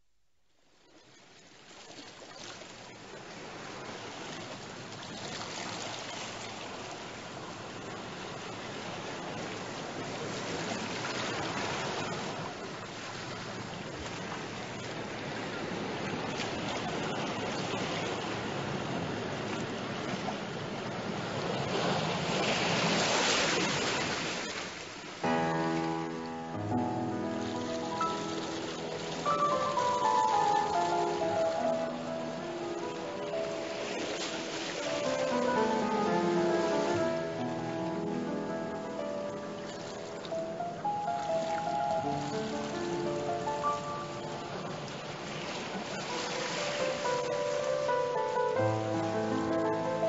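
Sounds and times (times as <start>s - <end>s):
waves rushing: 1.6s - 50.0s.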